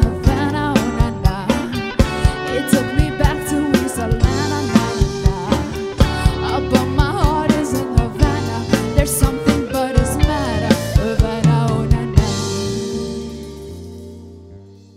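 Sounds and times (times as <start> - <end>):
woman singing: 0.0 - 13.1
live band playing pop: 0.0 - 14.9.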